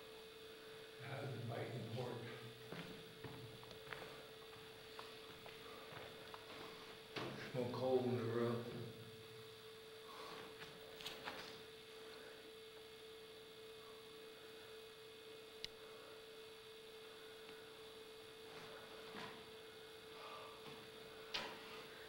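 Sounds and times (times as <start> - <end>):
steady hum tone: 0.0 - 22.0.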